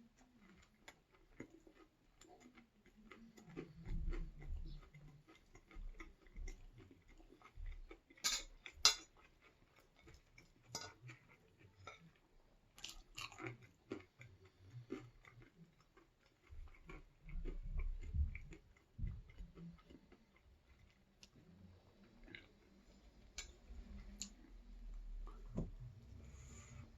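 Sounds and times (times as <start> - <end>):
person chewing crunchy food: 0.0 - 24.6.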